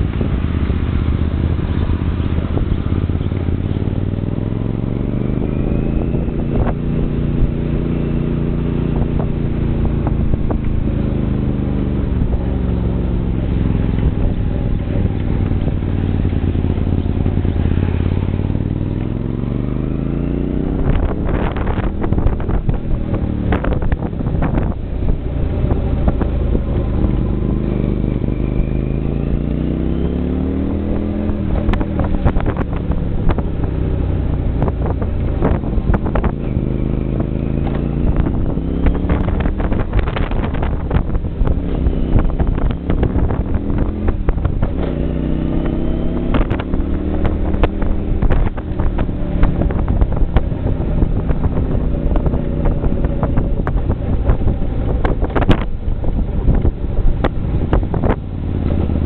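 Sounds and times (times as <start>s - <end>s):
trike engine revving: 0.0s - 59.0s
wind buffeting microphone: 0.0s - 59.0s.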